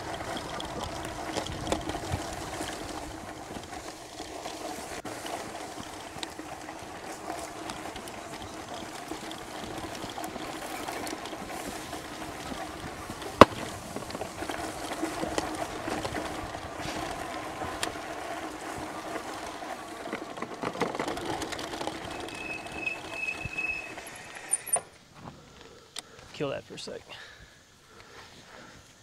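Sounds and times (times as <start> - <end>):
tyres and frame rattling: 0.0 - 24.9.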